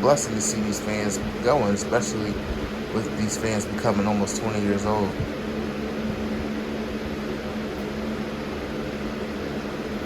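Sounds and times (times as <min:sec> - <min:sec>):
box fan air rush: 0:00.0 - 0:10.0
fan motor hum: 0:00.0 - 0:10.0.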